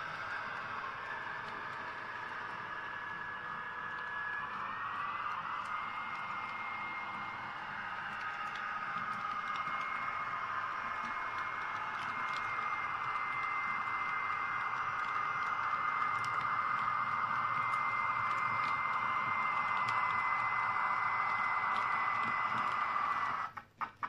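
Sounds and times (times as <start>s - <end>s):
model train motor whine: 0.0s - 24.0s.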